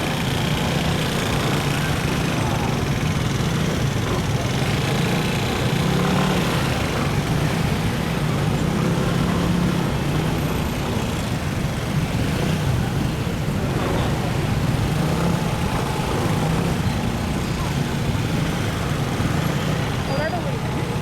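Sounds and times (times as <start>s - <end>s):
slow traffic with engine hum: 0.0s - 21.0s.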